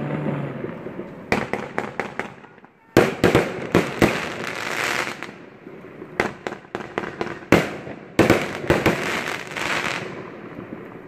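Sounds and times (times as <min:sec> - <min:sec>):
fireworks banging: 0:00.0 - 0:11.0
fireworks crackling hiss: 0:00.0 - 0:11.0.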